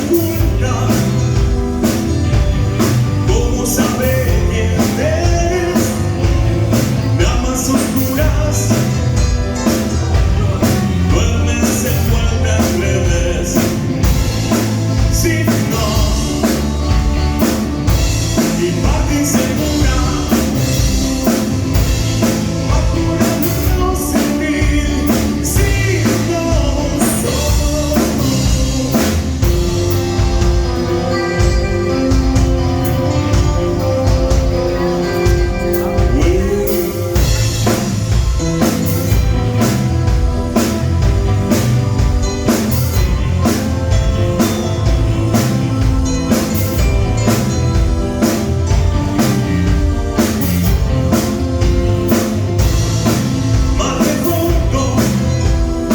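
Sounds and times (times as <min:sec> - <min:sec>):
live band playing: 0:00.0 - 0:55.9
person singing: 0:00.0 - 0:55.9.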